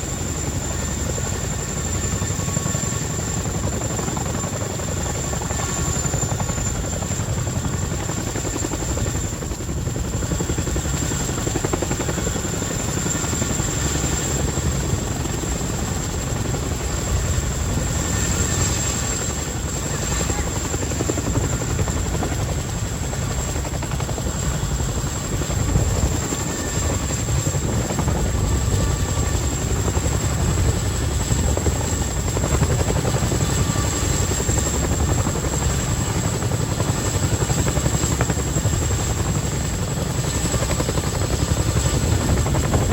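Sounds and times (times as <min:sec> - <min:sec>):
helicopter rotor beat: 0:00.0 - 0:42.9
high turbine whine: 0:00.0 - 0:42.9.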